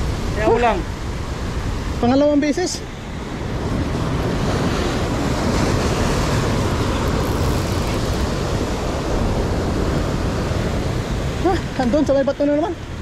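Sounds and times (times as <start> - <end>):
sea surf breaking over rocks: 0.0 - 13.0.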